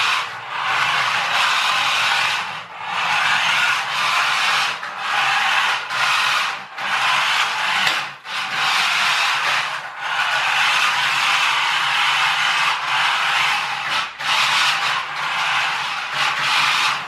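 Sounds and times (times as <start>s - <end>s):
toy truck motor whirring: 0.0s - 17.0s.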